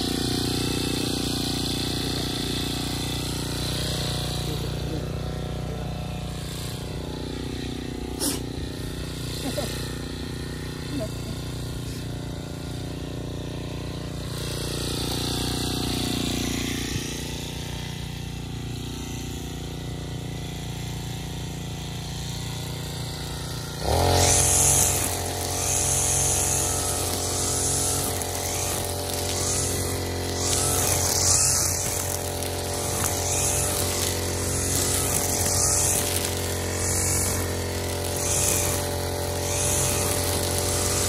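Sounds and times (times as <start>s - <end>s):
brush cutter cutting grass: 0.0s - 41.0s
brush cutter engine revving: 0.0s - 41.0s.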